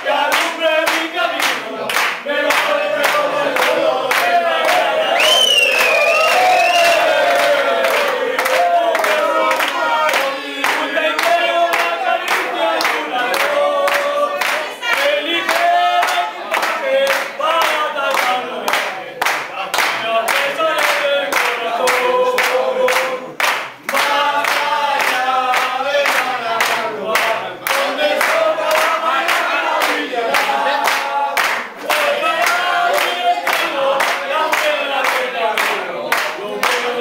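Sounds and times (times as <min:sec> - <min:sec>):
hands clapping in rhythm: 0:00.0 - 0:37.0
men singing a chant: 0:00.0 - 0:37.0.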